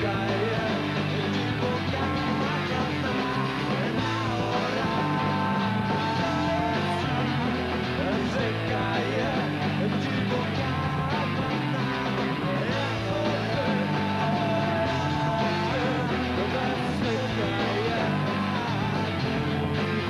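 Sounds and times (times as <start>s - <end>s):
person singing: 0.0s - 20.0s
rock band playing live: 0.0s - 20.0s.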